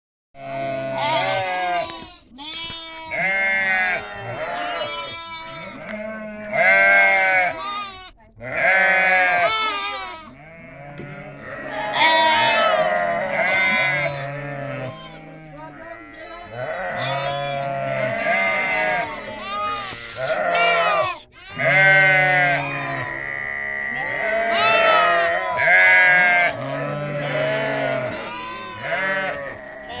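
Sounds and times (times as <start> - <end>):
goats bleating: 0.4 - 30.0.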